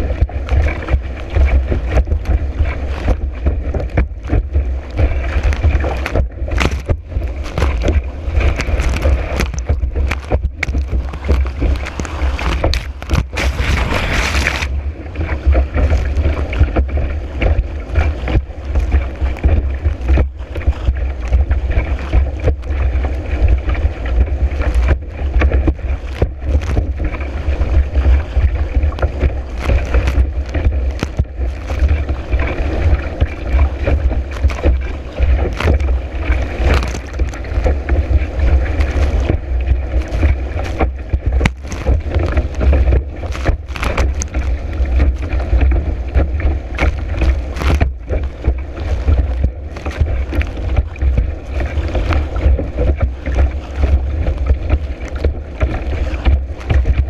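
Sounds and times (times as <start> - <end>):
board slapping choppy water: 0.0 - 57.0.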